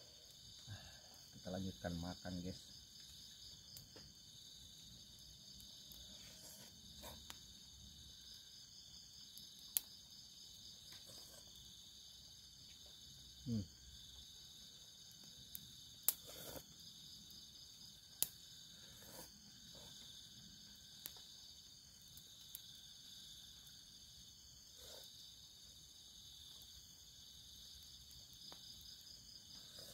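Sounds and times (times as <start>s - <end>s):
night insects chorus: 0.0s - 29.9s.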